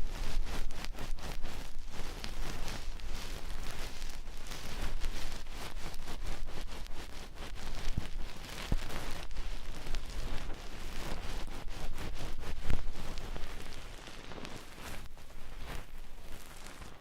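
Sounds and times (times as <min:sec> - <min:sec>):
tools scratching near microphone: 0:00.0 - 0:17.0.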